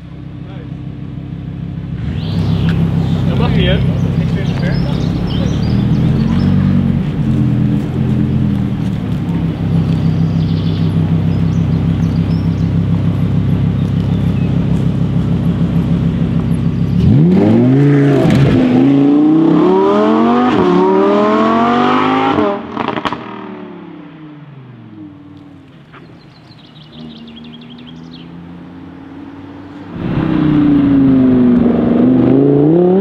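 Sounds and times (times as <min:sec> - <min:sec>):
sports car engine revving: 0:00.1 - 0:33.0.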